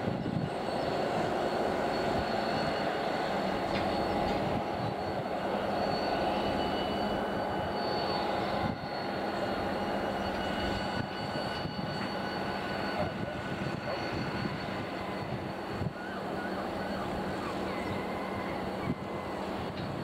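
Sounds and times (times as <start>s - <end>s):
diesel locomotive engine droning: 0.0s - 20.0s.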